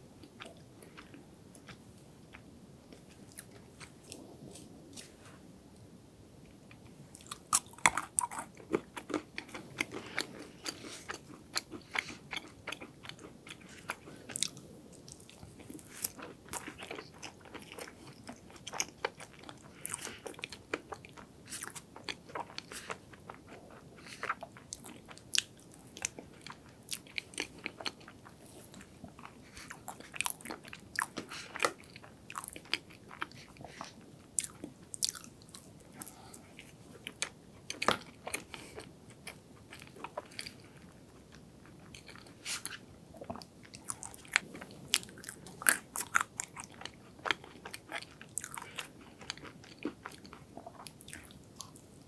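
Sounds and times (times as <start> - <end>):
chewing with sharp crunches: 6.7 - 52.0.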